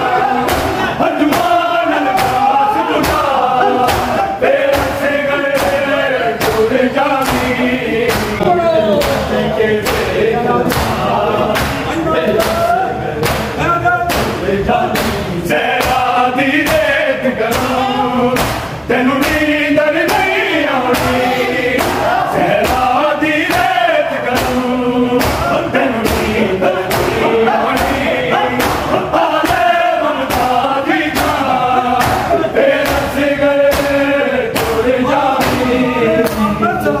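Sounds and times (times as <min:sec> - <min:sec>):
palms slapping chests: 0:00.0 - 0:36.6
crowd of men chanting: 0:00.0 - 0:37.0.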